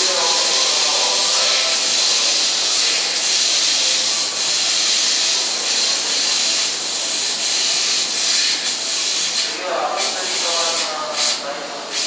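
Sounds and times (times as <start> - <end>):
train hissing: 0.0 - 12.0.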